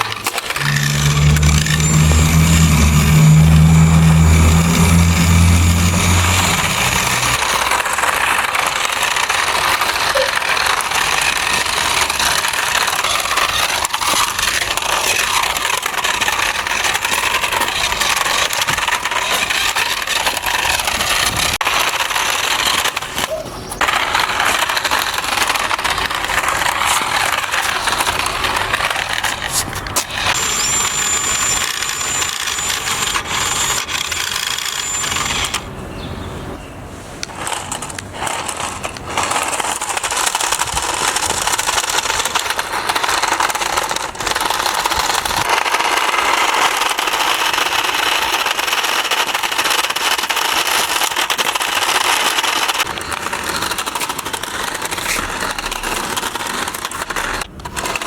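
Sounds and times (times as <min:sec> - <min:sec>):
wheels scrubbing on surface: 0:00.0 - 0:35.6, 0:36.9 - 0:58.0
toy car motor whining: 0:00.0 - 0:35.7, 0:37.2 - 0:58.0.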